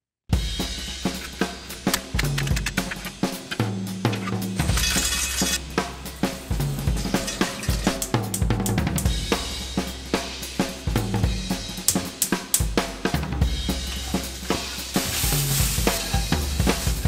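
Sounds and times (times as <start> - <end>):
drum kit beat with bass line: 0.3 - 17.0.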